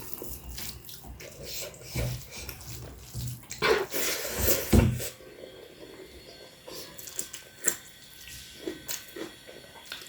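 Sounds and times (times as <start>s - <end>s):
eating noises: 0.0s - 10.0s.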